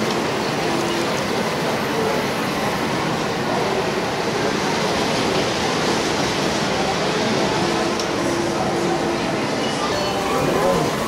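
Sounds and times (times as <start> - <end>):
model train rolling on track: 0.0 - 11.0.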